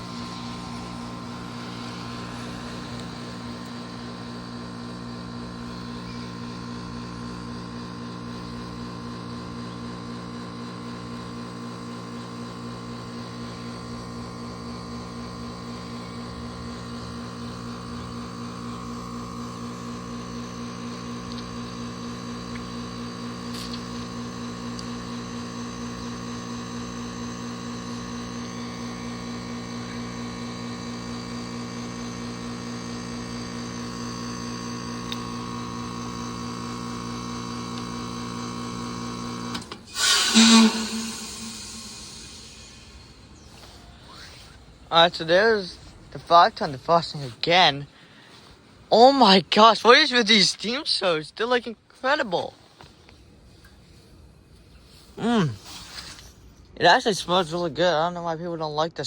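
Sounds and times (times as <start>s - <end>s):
heat pump compressor humming: 0.0s - 58.1s.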